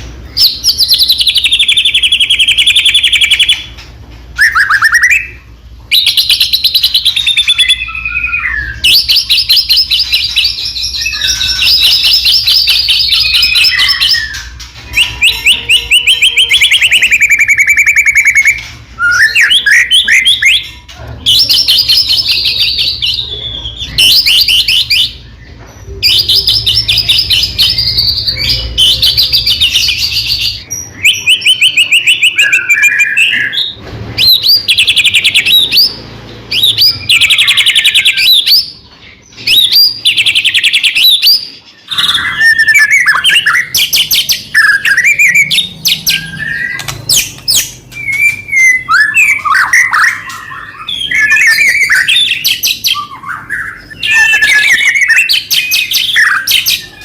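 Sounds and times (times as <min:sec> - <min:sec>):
songbird trills and whistles: 0:04.4 - 0:38.7, 0:39.3 - 0:57.0.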